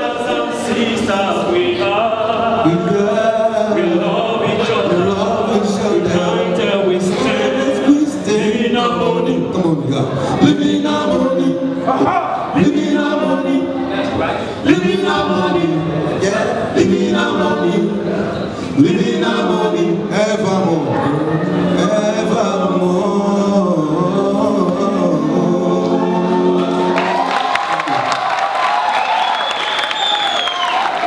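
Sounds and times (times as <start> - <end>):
men singing a cappella: 0.0 - 27.2.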